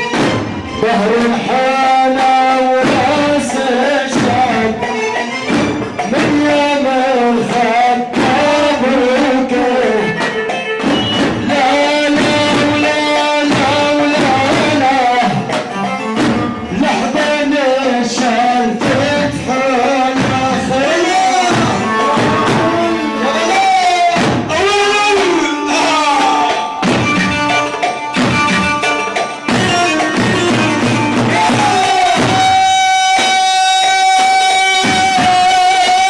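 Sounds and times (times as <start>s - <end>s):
ornamented melody line: 0.0s - 35.8s
steady percussion beat: 0.0s - 36.0s.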